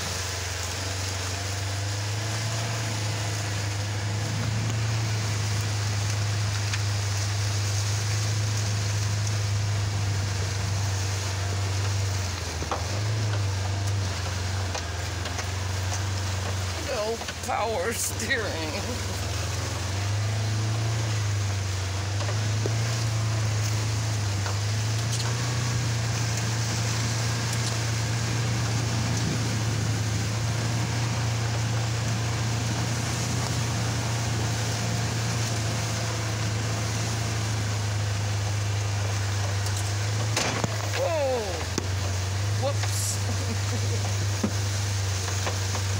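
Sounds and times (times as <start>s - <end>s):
buggy engine droning: 0.0s - 45.9s.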